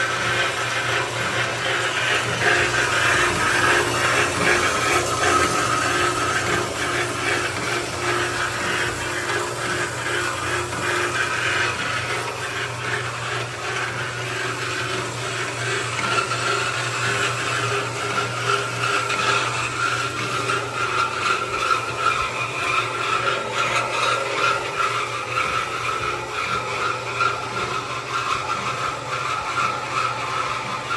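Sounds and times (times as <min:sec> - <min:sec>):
metal-cutting bandsaw running: 0:00.0 - 0:30.9.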